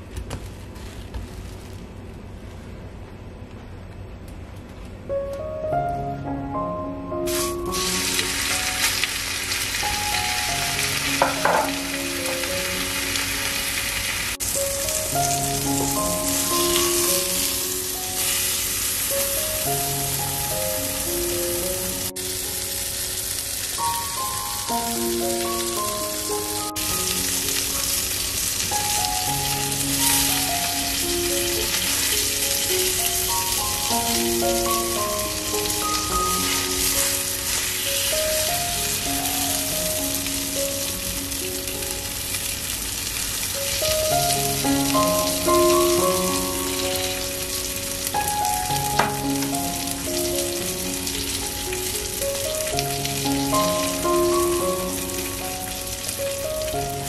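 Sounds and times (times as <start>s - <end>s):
soft background music: 4.9s - 57.0s
meat sizzling in a pan: 7.3s - 57.0s.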